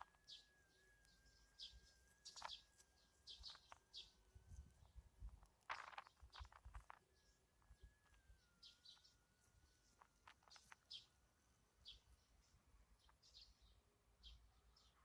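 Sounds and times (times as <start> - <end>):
faint thin steady tone: 0.0 - 15.0.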